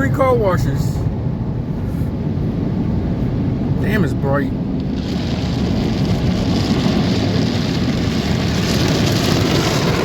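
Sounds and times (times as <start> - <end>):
car wash machinery rumble: 0.0 - 10.0.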